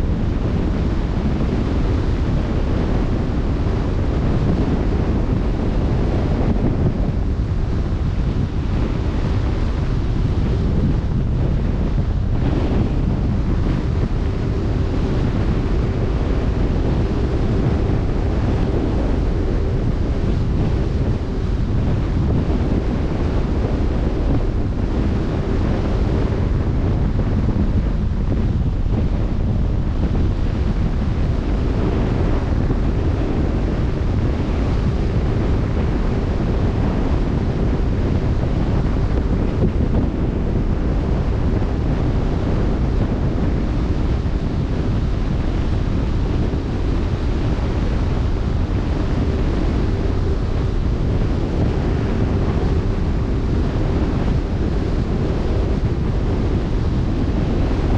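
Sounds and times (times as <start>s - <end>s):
faint steady hum: 0.0s - 57.9s
wind rumbling on microphone: 0.0s - 57.9s.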